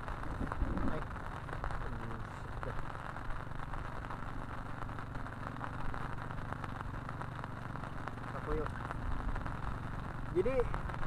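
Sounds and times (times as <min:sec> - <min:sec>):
low steady rumble: 0:00.0 - 0:11.0
rain drops ticking close: 0:00.0 - 0:11.0.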